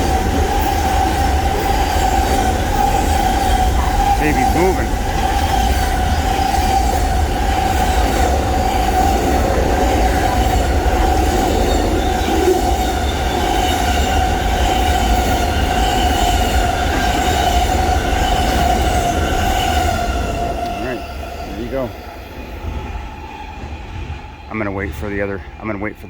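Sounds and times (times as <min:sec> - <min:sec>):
train cars rumbling past: 0:00.0 - 0:26.0
wheels squealing: 0:00.0 - 0:26.0.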